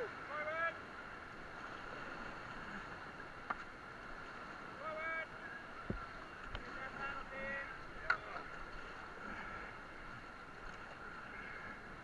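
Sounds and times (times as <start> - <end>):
rushing whitewater: 0.0 - 12.0.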